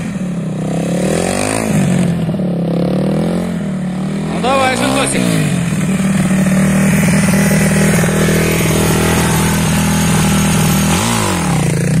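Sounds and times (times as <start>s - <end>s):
motorcycle engine idling: 1.9s - 12.0s.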